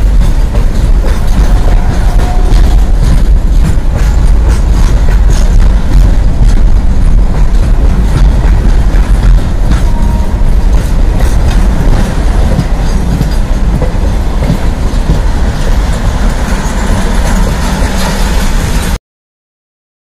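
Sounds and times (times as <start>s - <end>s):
train wheels rumbling over rails: 0.0s - 19.0s.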